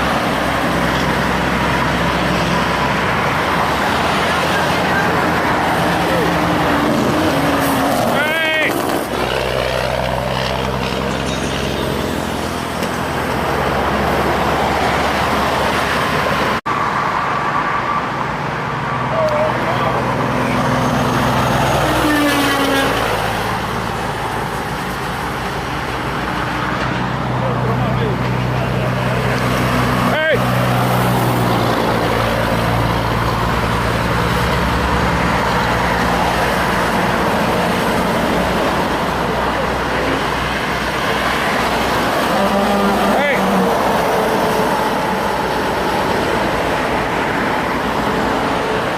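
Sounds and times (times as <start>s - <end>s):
diesel trucks passing: 0.0s - 48.9s
tyre and road noise: 0.0s - 48.9s.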